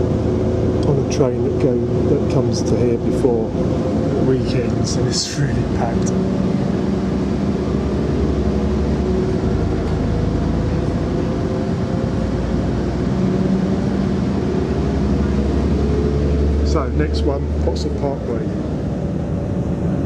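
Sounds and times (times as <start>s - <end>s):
train engine droning: 0.0s - 20.0s.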